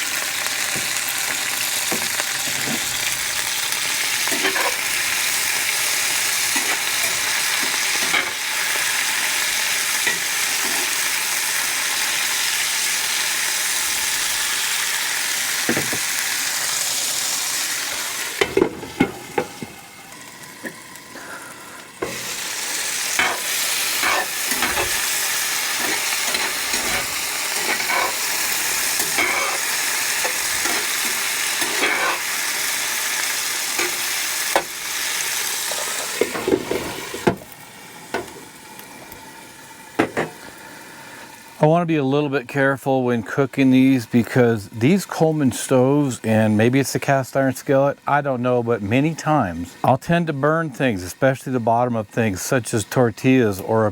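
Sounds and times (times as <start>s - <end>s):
vegetables sizzling in oil: 0.0s - 41.6s, 43.6s - 53.9s.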